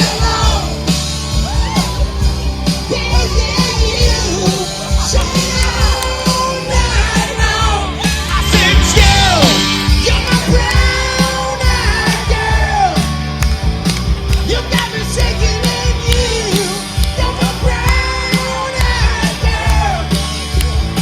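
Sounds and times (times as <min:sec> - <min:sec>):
singer belting: 0:00.0 - 0:13.4, 0:14.4 - 0:21.0
live rock band playing: 0:00.0 - 0:21.0.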